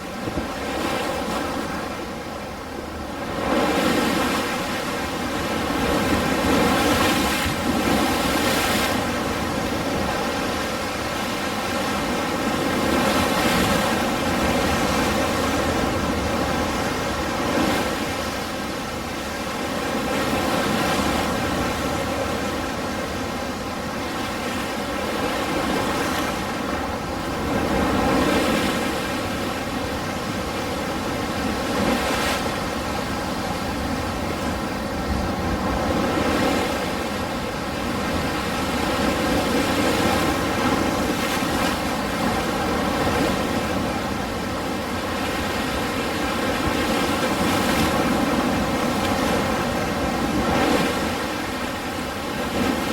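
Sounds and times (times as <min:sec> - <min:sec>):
ocean waves breaking: 0:00.0 - 0:52.9.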